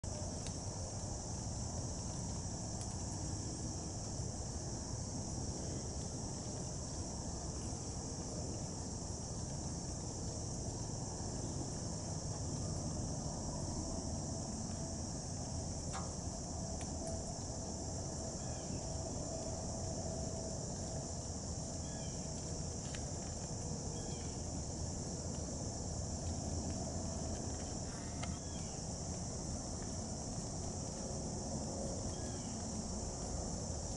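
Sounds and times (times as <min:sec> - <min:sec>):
insect chorus: 0:00.0 - 0:33.9
low background rumble: 0:00.0 - 0:33.9.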